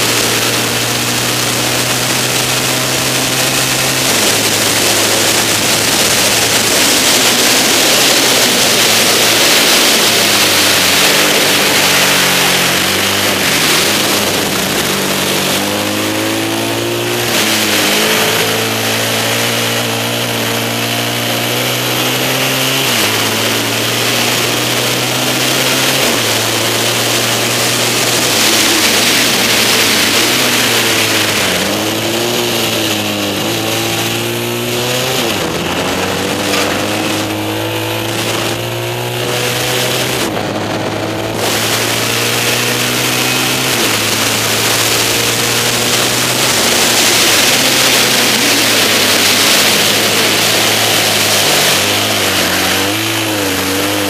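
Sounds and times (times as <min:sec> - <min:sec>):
motorcycle engine accelerating: 0:00.0 - 0:54.0
wind noise on microphone: 0:00.0 - 0:54.0.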